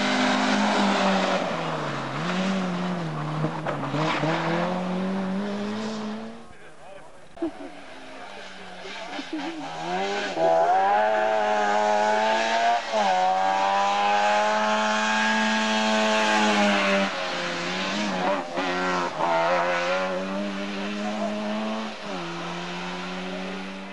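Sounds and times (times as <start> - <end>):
rally car engine revving: 0.0 - 6.8, 7.4 - 23.9.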